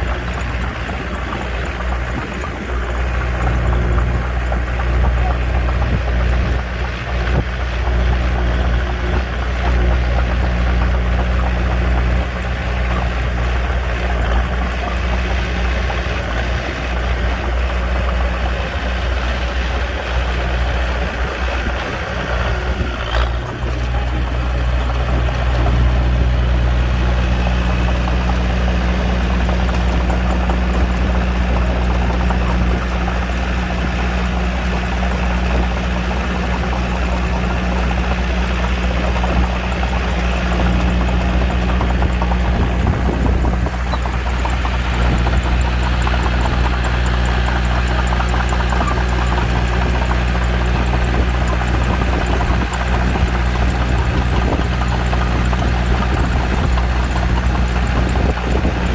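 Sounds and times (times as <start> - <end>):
bulldozer diesel engine droning: 0.0 - 58.9.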